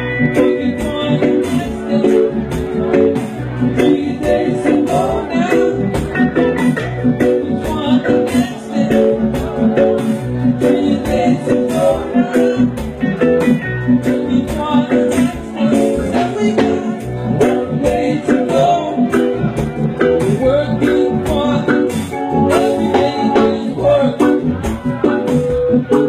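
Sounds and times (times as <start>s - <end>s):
live reggae band playing: 0.0s - 26.0s
person singing: 0.0s - 26.0s.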